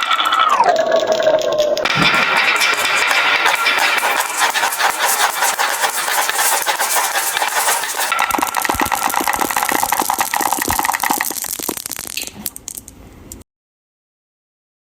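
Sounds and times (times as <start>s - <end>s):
toys clattering down marble run: 0.0s - 13.0s.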